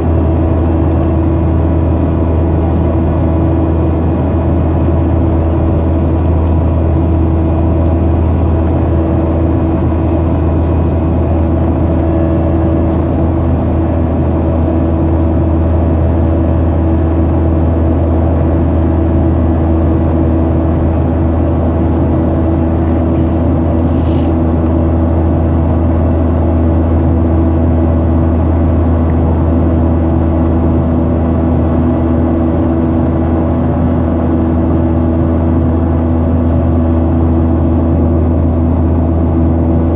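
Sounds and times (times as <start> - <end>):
jet engine cabin drone: 0.0 - 39.9
steady hums: 0.0 - 39.9.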